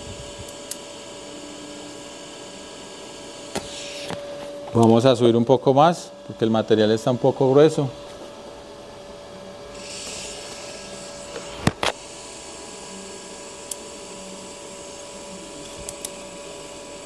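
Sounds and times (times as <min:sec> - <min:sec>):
welder humming: 0:00.0 - 0:17.0.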